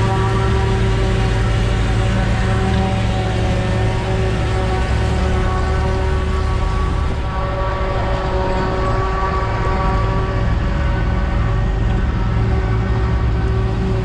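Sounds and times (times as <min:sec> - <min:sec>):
diesel engine rumbling: 0:00.0 - 0:14.0
droning hum: 0:00.0 - 0:14.0.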